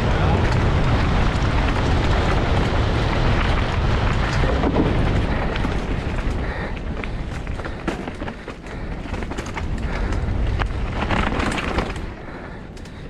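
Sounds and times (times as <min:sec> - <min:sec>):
bike rattling and knocking: 0:00.0 - 0:13.0
wind on microphone: 0:00.0 - 0:13.0.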